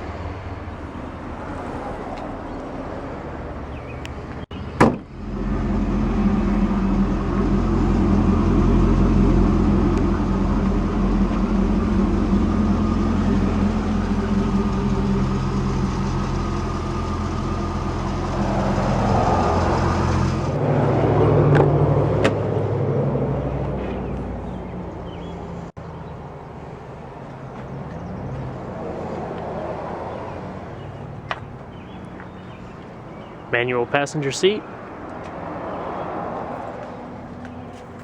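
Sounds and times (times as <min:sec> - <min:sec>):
car engine idling: 0:00.0 - 0:33.5.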